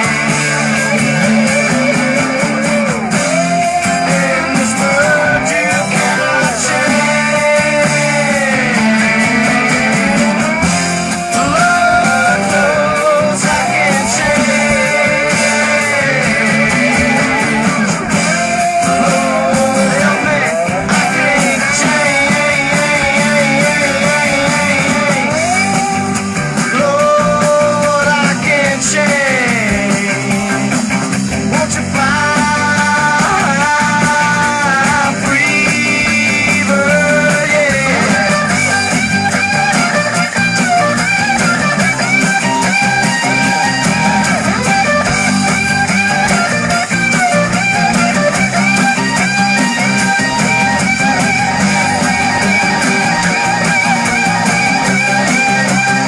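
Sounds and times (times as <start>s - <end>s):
electric guitar lead: 0.0s - 56.0s
rock band playing: 0.0s - 56.0s.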